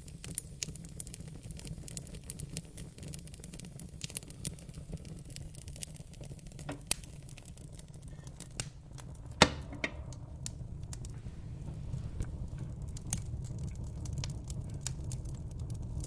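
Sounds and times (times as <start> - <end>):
fire crackling in fireplace: 0.0 - 16.0
sharp pops of fire: 0.0 - 16.0.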